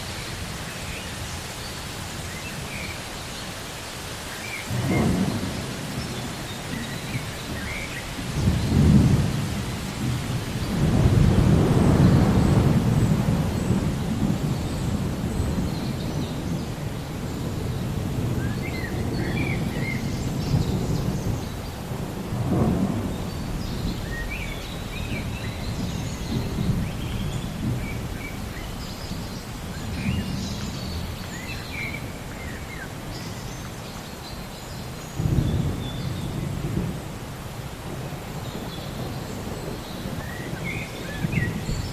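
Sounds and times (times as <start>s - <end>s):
small birds chirping: 0.0s - 22.0s, 22.9s - 36.6s.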